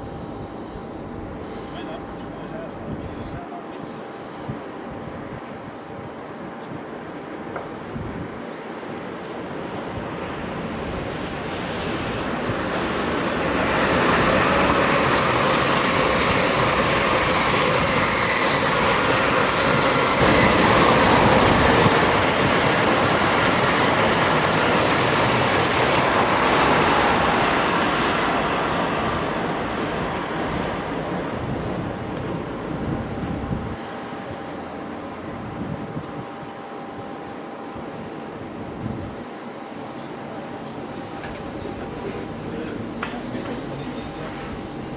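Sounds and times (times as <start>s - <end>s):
train rumbling past: 0.0s - 44.9s.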